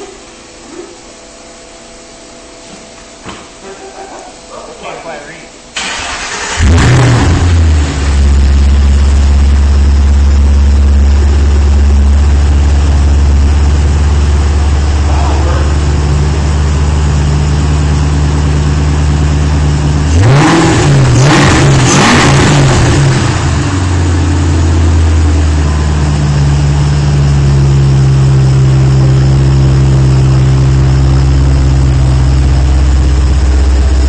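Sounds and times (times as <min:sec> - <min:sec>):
car engine idling and revving: 0:05.8 - 0:34.0.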